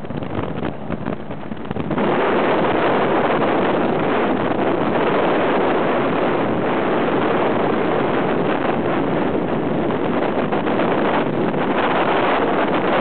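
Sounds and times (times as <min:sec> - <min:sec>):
ultralight aircraft engine: 0:00.0 - 0:13.0
wind rushing over microphone: 0:00.0 - 0:13.0.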